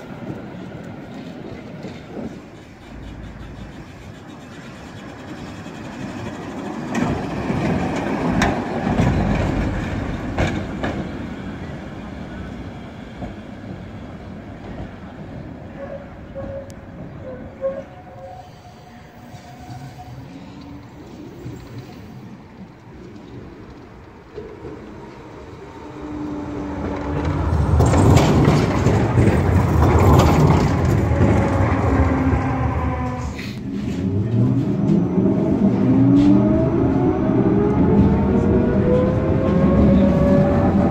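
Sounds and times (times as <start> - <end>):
wheels clacking on track: 0.0 - 17.6, 19.6 - 40.9
tram running rumble: 0.0 - 40.9.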